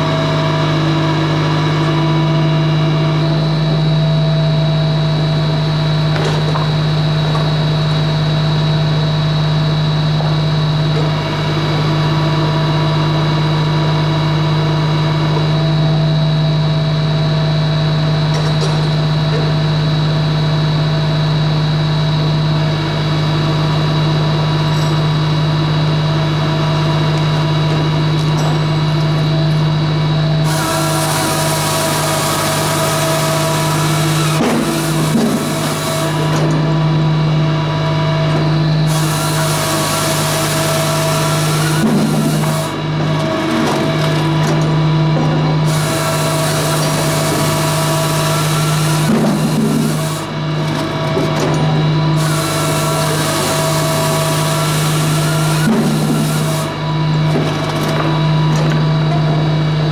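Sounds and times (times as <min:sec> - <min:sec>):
power unit engine running: 0:00.0 - 0:59.9.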